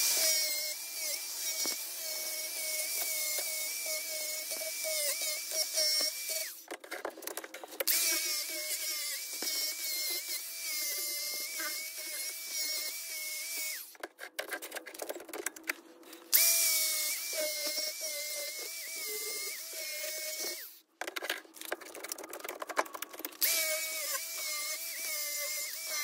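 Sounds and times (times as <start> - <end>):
angle grinder grinding metal: 0.0 - 6.8, 7.4 - 14.0, 16.1 - 20.9, 23.1 - 26.0.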